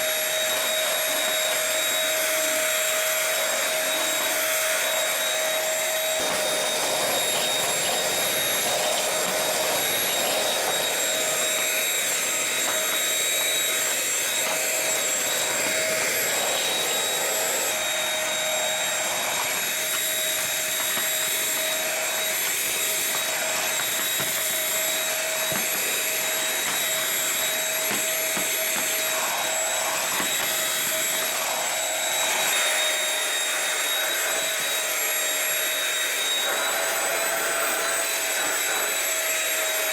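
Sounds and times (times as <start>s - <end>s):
stick vacuum running: 0.0s - 39.9s.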